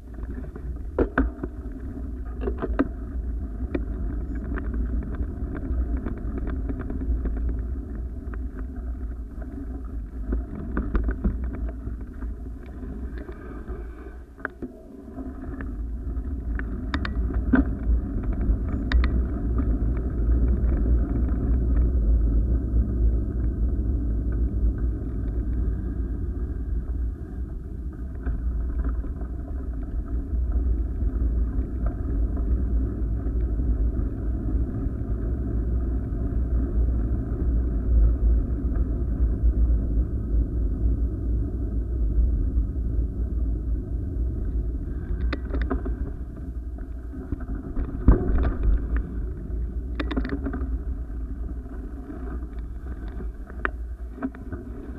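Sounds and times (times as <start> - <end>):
muffled wind rumble: 0.0 - 54.9.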